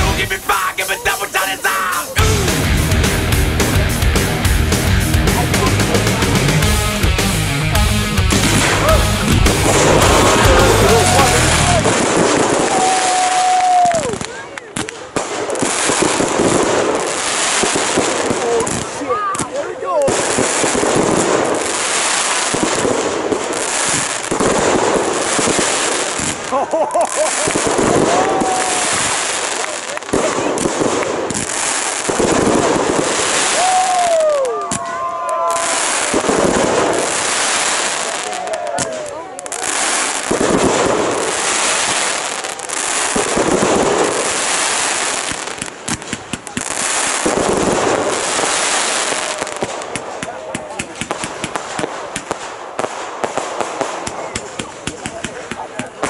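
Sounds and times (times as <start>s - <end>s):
fireworks crackling: 0.0s - 56.0s
firework shells bursting: 8.3s - 56.0s.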